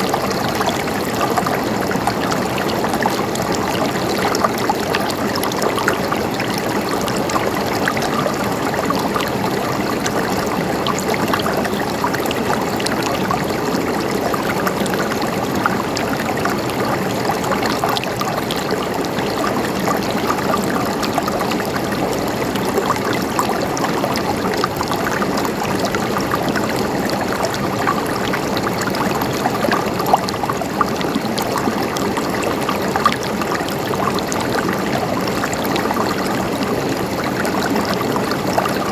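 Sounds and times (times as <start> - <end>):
stream gurgling over rocks: 0.0 - 38.9.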